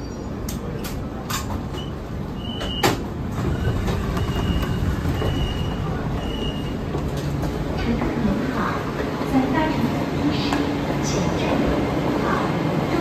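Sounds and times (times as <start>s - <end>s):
train cabin rumble: 0.3s - 13.0s.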